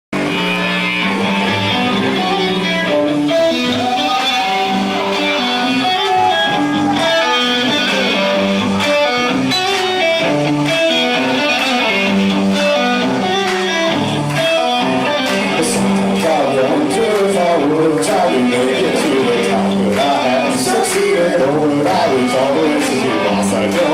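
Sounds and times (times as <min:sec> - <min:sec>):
bass line: 0:00.1 - 0:23.9
electric guitar: 0:00.1 - 0:23.9.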